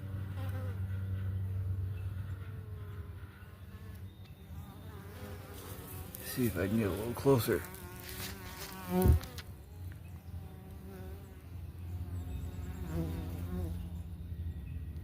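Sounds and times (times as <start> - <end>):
bees buzzing: 0.0 - 14.1.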